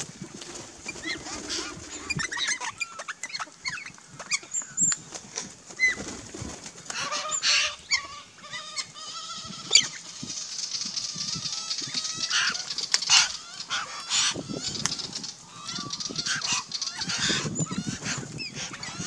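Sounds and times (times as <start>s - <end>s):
wings flapping: 0.0s - 7.8s, 9.6s - 19.0s
birds chirping and squeaking: 0.3s - 19.0s
harsh rasping bird calls: 0.8s - 5.2s, 6.8s - 19.0s.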